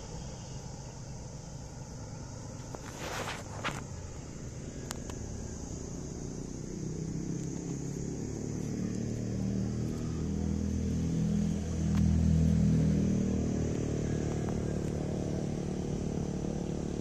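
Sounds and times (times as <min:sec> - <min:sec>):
high-pitched hiss: 0:00.0 - 0:17.0
motor vehicle engine: 0:00.0 - 0:17.0.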